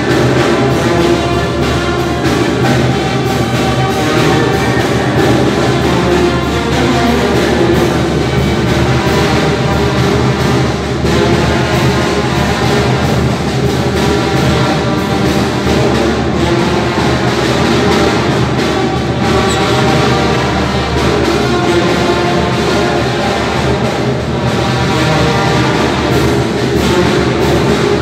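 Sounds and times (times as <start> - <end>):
brass band music: 0.0 - 28.0.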